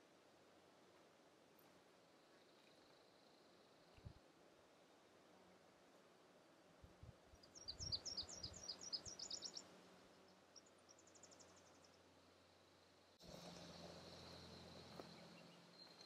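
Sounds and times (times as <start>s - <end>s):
songbird singing: 1.5s - 5.1s, 6.3s - 16.0s.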